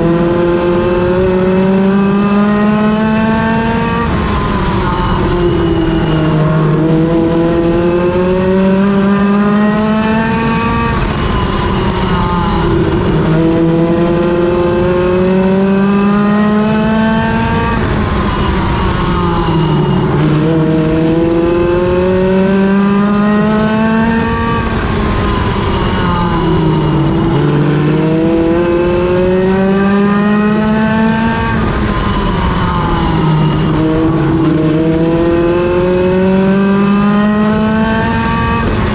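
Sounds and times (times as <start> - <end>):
race car engine accelerating: 0.0 - 38.9.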